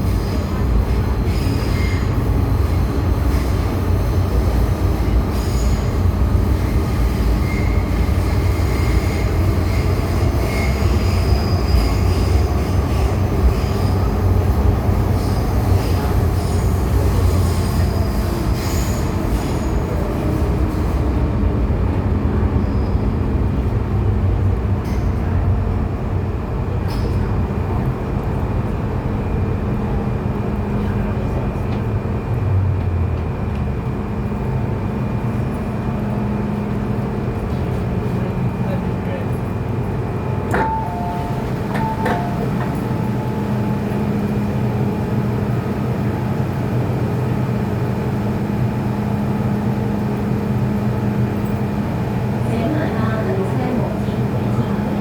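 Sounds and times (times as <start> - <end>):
train running with low rumble: 0.0 - 55.0.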